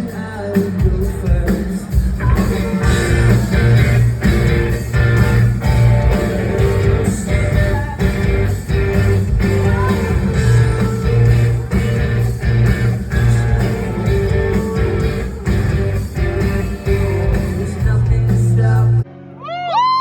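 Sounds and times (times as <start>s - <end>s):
person singing: 0.0s - 3.9s, 5.0s - 20.0s
live rock band playing: 0.0s - 19.0s
electric guitars: 0.0s - 20.0s.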